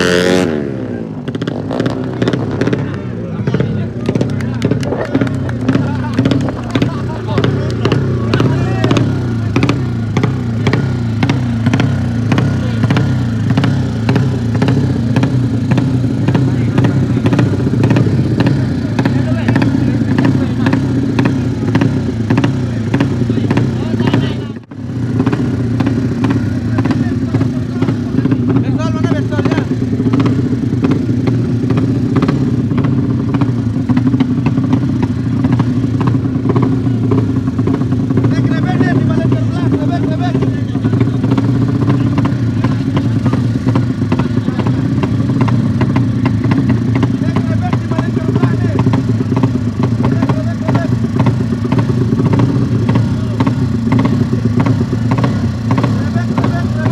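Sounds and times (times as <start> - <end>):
motocross bike engines running: 0.0 - 56.9.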